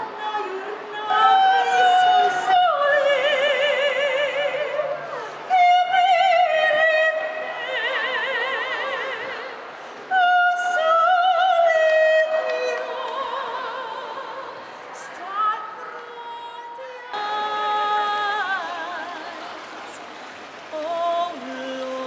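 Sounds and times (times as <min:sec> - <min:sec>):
woman singing solo with vibrato: 0:00.0 - 0:19.6.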